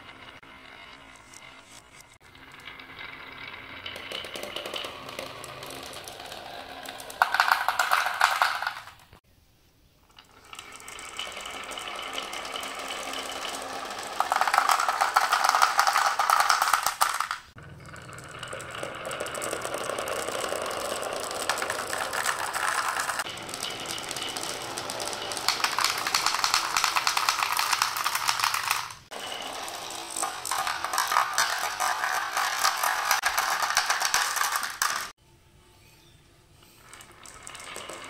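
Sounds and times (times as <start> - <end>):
marbles clattering down a marble run: 0.0 - 9.2, 10.1 - 35.2, 36.6 - 38.0.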